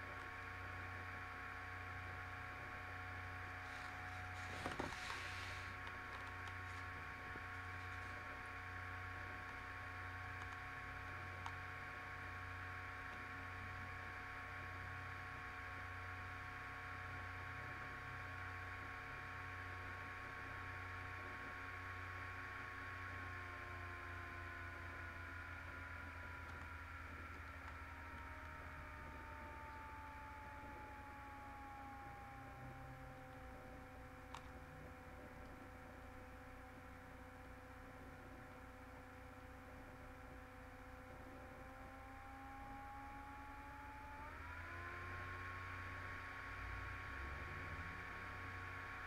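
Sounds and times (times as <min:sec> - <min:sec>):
electrical hum: 0:00.0 - 0:49.0
faint whining tones: 0:00.0 - 0:49.0.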